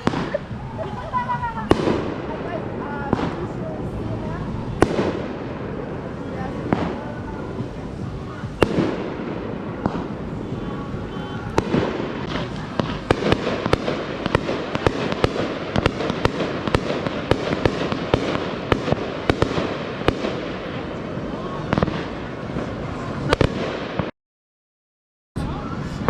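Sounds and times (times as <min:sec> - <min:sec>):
fireworks popping and banging: 0:00.0 - 0:24.1.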